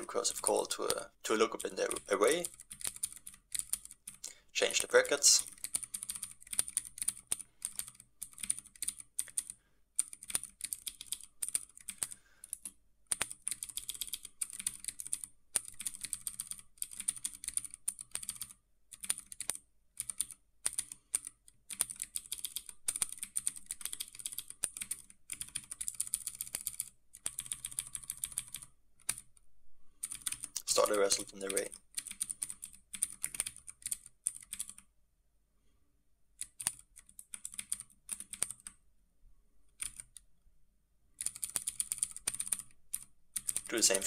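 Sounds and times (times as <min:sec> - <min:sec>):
computer keyboard typing: 0:00.0 - 0:29.4, 0:30.0 - 0:34.9, 0:36.4 - 0:38.8, 0:39.8 - 0:40.2, 0:41.2 - 0:44.0.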